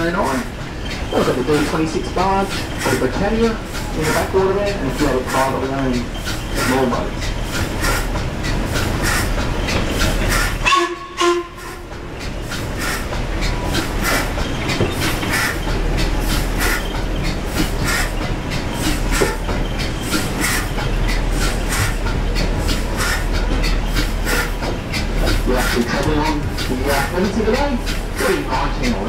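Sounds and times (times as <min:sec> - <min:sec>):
steam engine rhythmic beat: 0:00.0 - 0:29.0.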